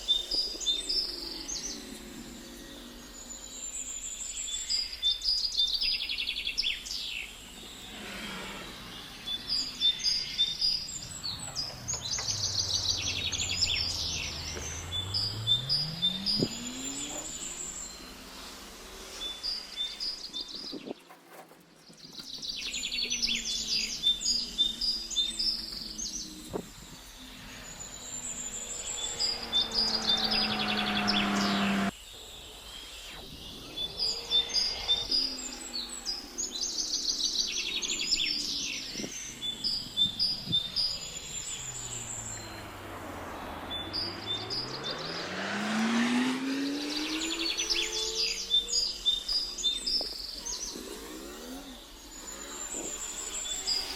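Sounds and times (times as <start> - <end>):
passing vehicles: 0.0 - 21.0, 22.2 - 53.9
small birds chirping: 0.0 - 53.9.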